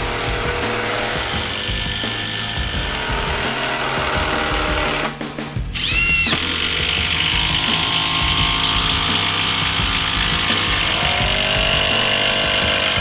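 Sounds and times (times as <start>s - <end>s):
impact drivers driving screws: 0.0s - 5.1s, 5.8s - 13.0s
background music: 0.0s - 13.0s.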